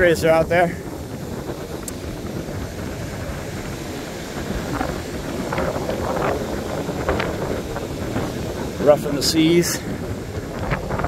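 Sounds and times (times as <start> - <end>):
rough surf: 0.0 - 11.0
wind buffeting microphone: 0.0 - 11.0.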